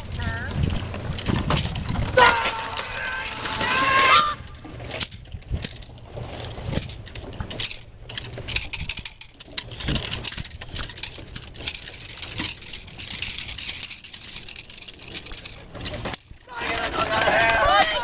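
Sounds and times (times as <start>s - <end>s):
clicks and rattles: 0.0s - 18.0s.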